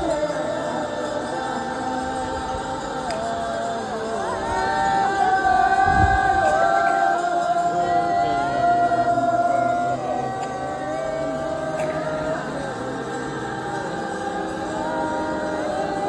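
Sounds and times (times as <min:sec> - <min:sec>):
music of long held notes: 0:00.0 - 0:16.0.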